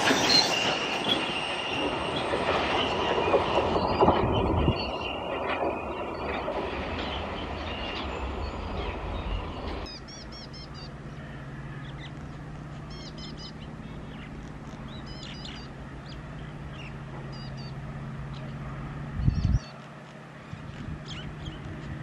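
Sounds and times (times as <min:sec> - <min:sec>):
freight train rumbling: 0:00.0 - 0:22.0
birds chirping: 0:00.2 - 0:22.0.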